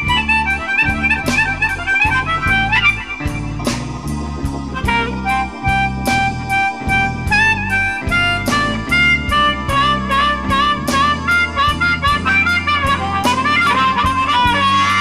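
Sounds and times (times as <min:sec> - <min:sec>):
amplified harmonica lead: 0:00.0 - 0:15.0
electric blues band playing: 0:00.0 - 0:15.0.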